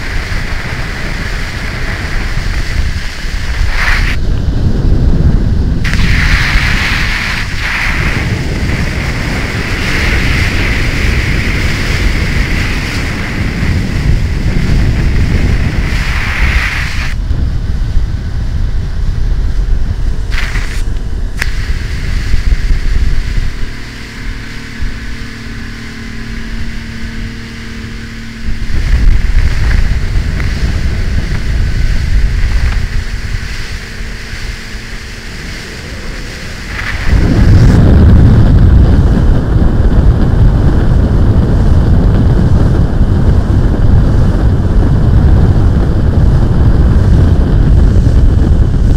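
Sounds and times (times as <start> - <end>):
boat engine humming: 0.0 - 48.9
rush of wake and spray: 0.0 - 48.9
wind buffeting on microphone: 0.0 - 48.9.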